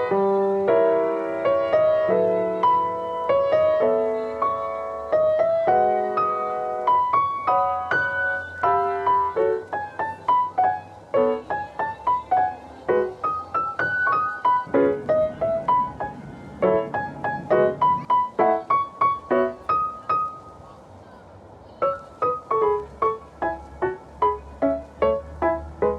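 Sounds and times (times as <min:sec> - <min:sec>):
gentle solo piano: 0:00.0 - 0:25.9.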